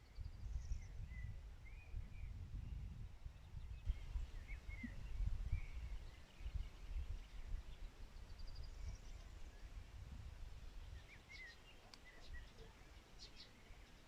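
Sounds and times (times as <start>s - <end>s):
songbirds chirping and whistling: 0.0s - 14.0s.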